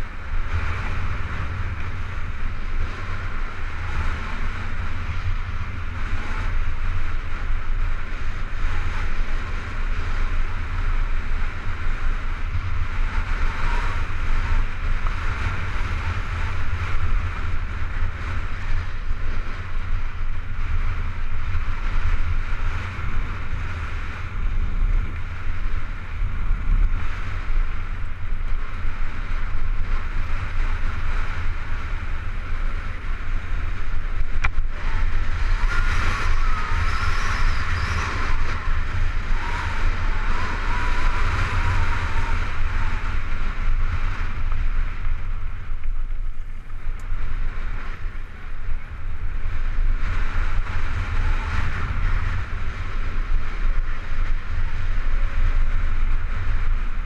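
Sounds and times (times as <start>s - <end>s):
bike rattling: 0.0s - 57.0s
wind buffeting microphone: 0.0s - 57.0s.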